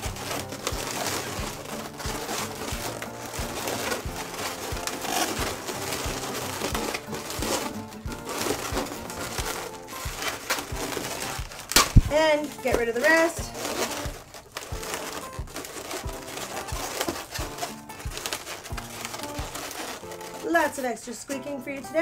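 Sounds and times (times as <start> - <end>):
background music with steady beat: 0.0 - 22.0
balloons squeaking and rubbing: 0.0 - 22.0.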